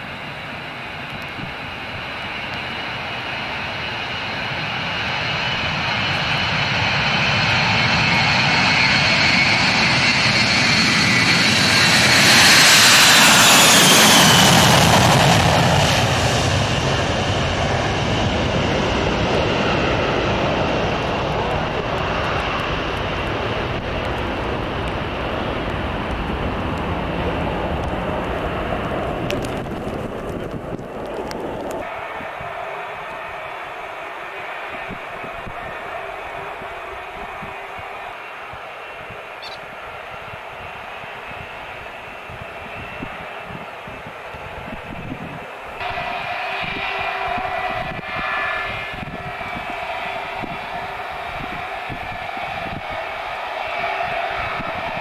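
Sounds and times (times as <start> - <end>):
high jet engine whine: 0.0 - 55.0
jet airliner flying past: 0.0 - 55.0.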